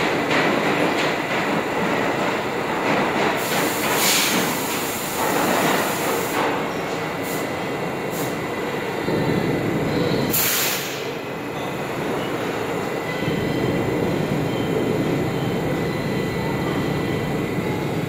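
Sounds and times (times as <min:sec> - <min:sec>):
subway train rail rumble: 0:00.0 - 0:18.0.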